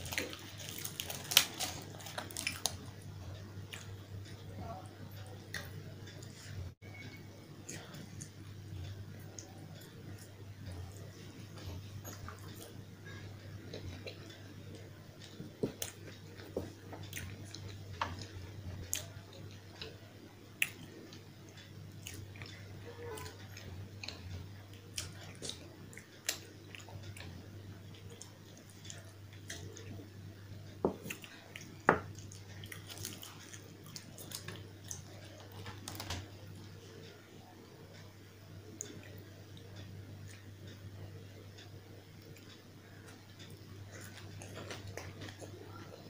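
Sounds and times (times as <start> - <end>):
close chewing: 0.0 - 6.8, 7.6 - 37.2, 41.5 - 46.0
steady low hum: 0.0 - 46.0.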